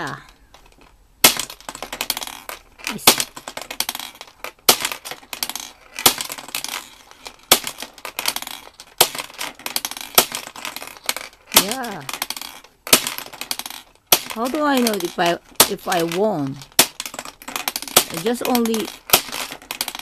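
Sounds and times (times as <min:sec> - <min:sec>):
balls rattling through pins: 0:00.0 - 0:20.0
toy lever clacking: 0:01.8 - 0:20.0.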